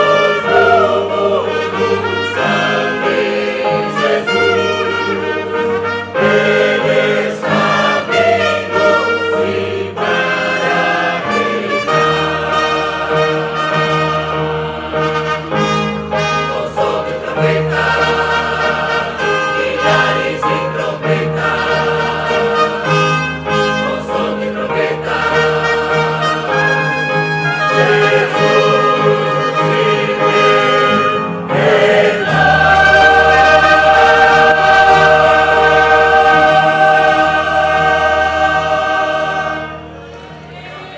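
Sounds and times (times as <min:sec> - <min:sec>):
brass accompaniment: 0:00.0 - 0:40.8
choir singing gospel: 0:00.0 - 0:40.9.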